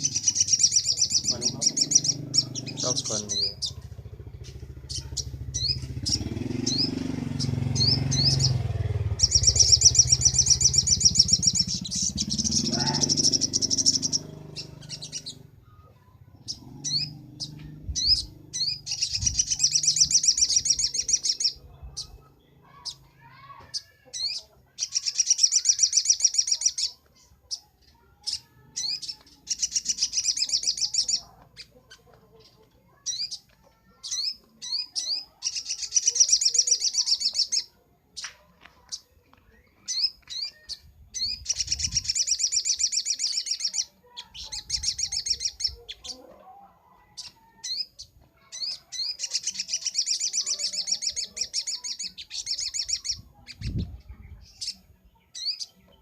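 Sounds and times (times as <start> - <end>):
bird singing rapid trills: 0.0 - 38.3, 38.9 - 46.2, 47.0 - 56.0.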